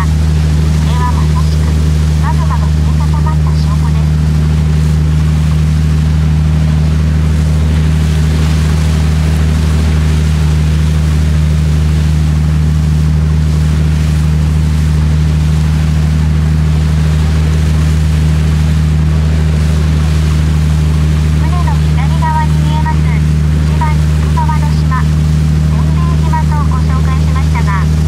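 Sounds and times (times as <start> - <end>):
boat engine droning: 0.0 - 28.0
water rushing in wake: 0.0 - 28.0.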